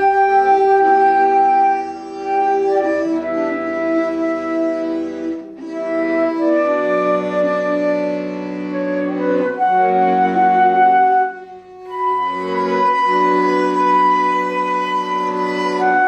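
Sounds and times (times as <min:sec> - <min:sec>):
flute melody: 0:00.0 - 0:16.0
sustained accompaniment: 0:00.0 - 0:16.0.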